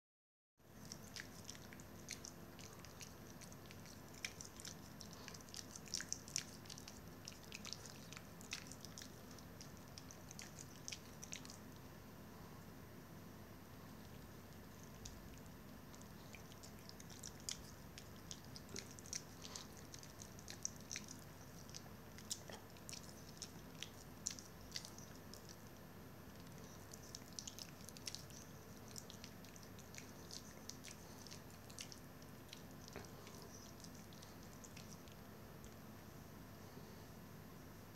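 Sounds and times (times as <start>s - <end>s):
dog licking its paw: 0.7s - 11.9s, 13.9s - 35.8s.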